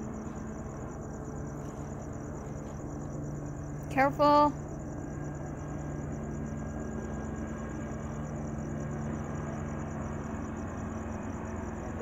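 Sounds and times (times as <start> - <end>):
low engine hum: 0.0 - 12.0
pulsing insect trill: 0.0 - 12.0.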